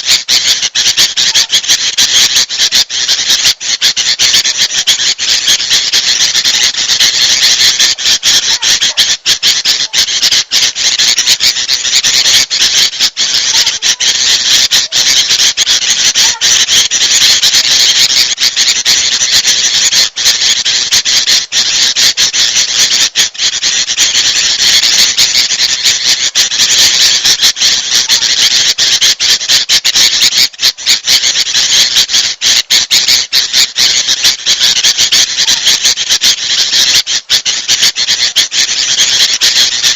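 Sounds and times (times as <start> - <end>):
bulbul alarm calls chattering: 0.0 - 39.9.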